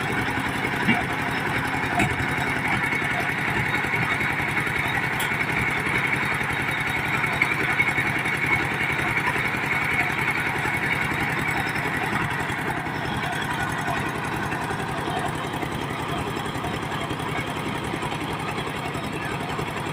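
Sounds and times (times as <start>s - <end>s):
diesel engine running steadily: 0.0s - 19.9s.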